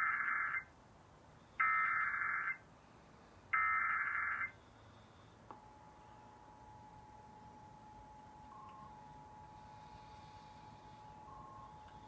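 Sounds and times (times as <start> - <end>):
faint steady tone: 0.0 - 12.0.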